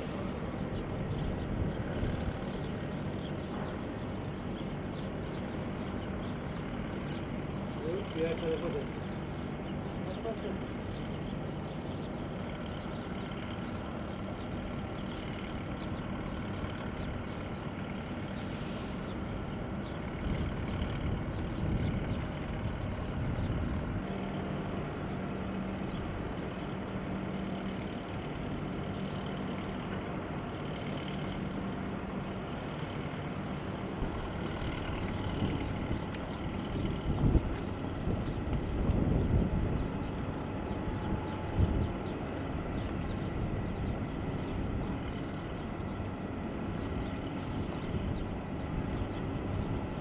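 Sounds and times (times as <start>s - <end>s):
distant aircraft engines rumbling: 0.0s - 50.0s.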